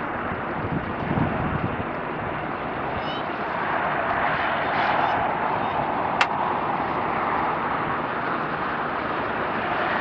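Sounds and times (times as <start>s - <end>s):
jet engines rushing hum: 0.0s - 10.0s.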